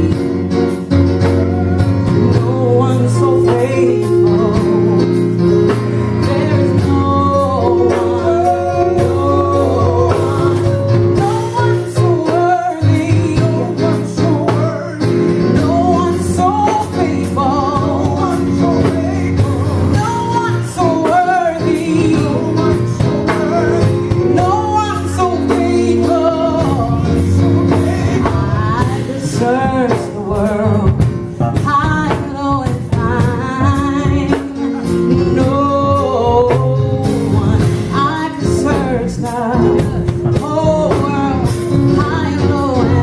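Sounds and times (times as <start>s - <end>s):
band with keys and bass: 0.0s - 43.0s
gospel singing: 0.0s - 43.0s.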